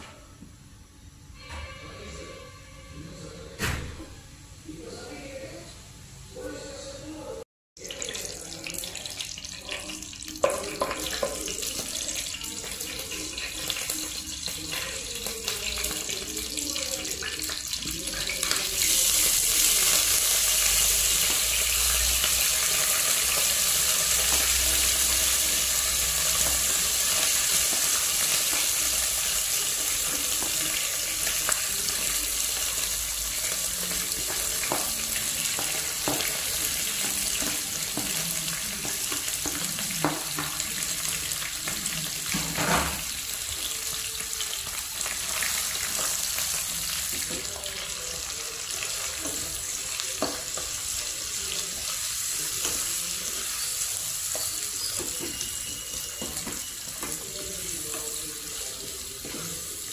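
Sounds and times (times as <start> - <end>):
hot oil crackling in a pot: 7.8 - 59.9
loud steady sizzle of frying: 7.8 - 59.9.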